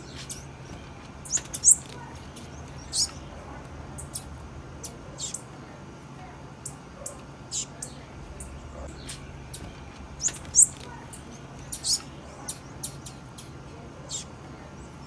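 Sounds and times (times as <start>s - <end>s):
bird chirping: 0.0s - 5.8s, 6.6s - 15.0s.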